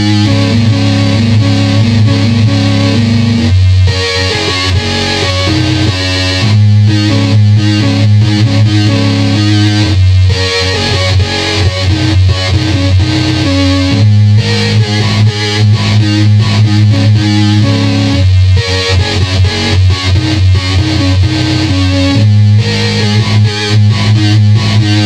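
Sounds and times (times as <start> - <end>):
electronic keyboard stepping notes: 0.0 - 25.0
loud low sustained tone: 0.0 - 25.0.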